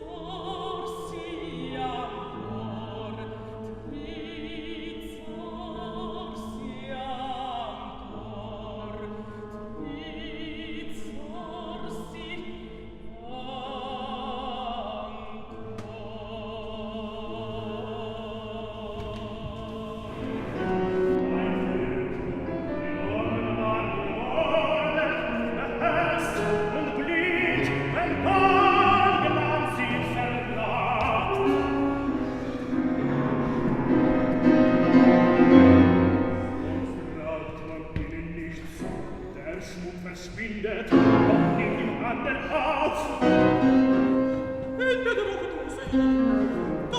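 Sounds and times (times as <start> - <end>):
musical accompaniment: 0.0 - 46.9
operatic singing with vibrato: 0.0 - 46.9.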